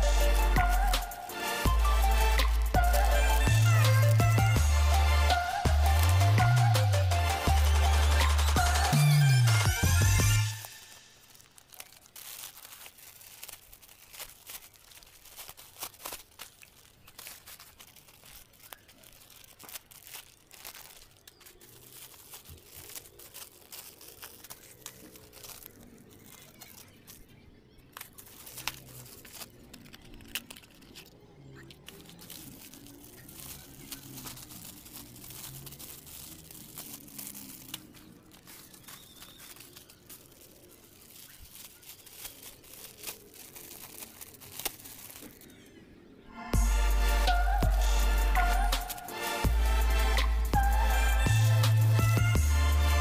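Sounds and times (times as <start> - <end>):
plastic packaging crinkling and tearing: 0.0 - 46.2, 46.8 - 53.0.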